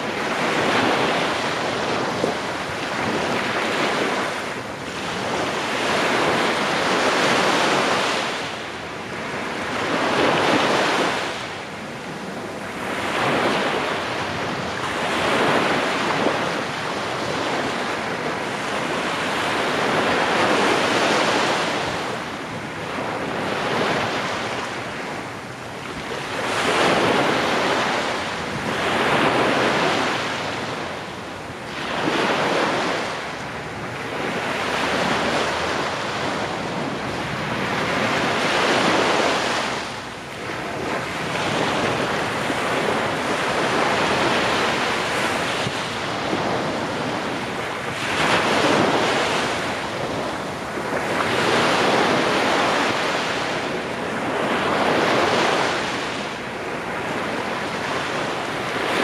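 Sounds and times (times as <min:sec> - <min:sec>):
waves washing on beach: 0:00.0 - 0:59.0
wind buffeting microphone: 0:00.0 - 0:59.0.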